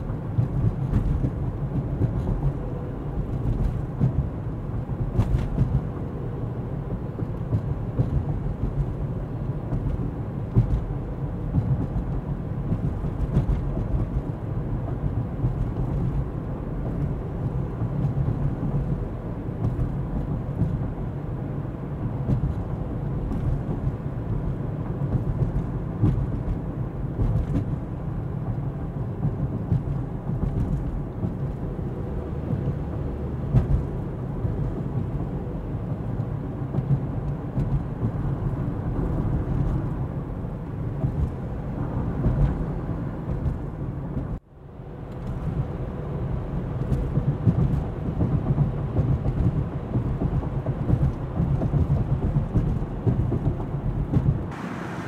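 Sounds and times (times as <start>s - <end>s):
car tyre and engine rumble: 0.0s - 55.0s.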